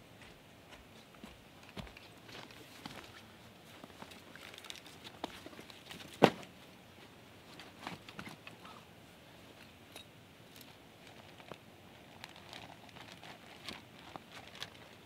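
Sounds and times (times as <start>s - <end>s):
faint rustles and clicks: 0.9s - 15.0s.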